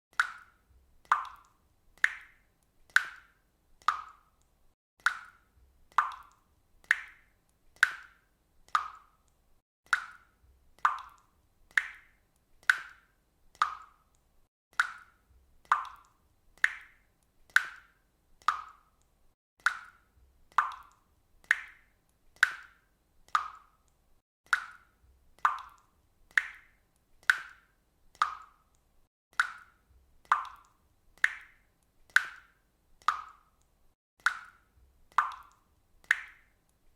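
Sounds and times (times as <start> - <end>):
water dripping: 0.1 - 36.9.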